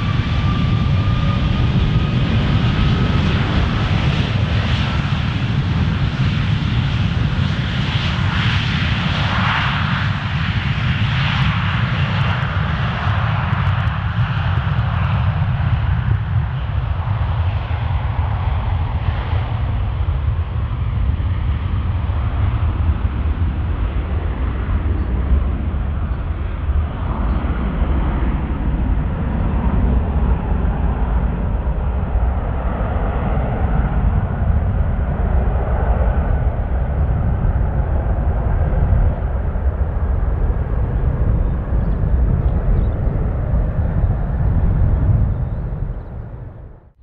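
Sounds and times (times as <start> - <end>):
jet engines at takeoff power: 0.0 - 47.0.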